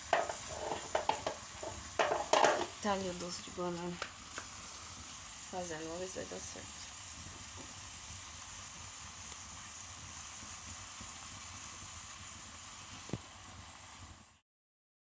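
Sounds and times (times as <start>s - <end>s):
jam sizzling in a pan: 0.0s - 14.4s.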